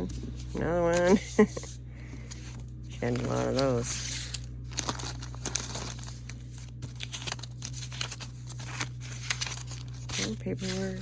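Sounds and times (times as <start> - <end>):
papers rustling and crinkling: 0.0 - 11.0.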